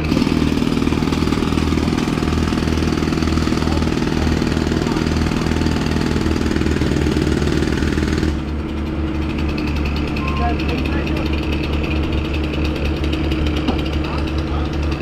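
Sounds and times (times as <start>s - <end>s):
concrete saw cutting: 0.0s - 15.0s.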